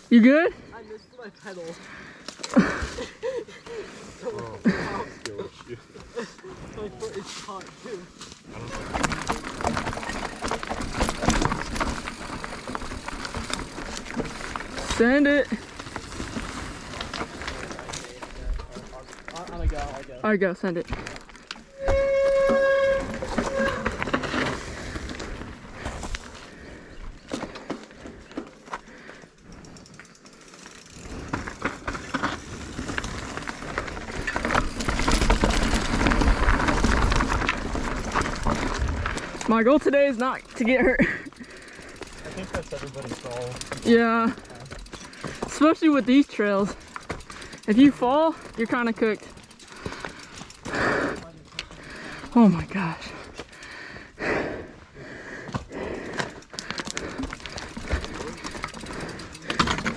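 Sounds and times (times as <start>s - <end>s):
bike tyres on rocky trail: 0.0s - 59.9s.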